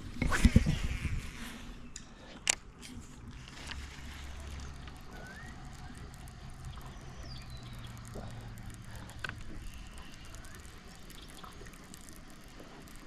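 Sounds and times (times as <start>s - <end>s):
low steady hum: 0.0s - 13.0s
water lapping and dripping: 2.0s - 13.0s.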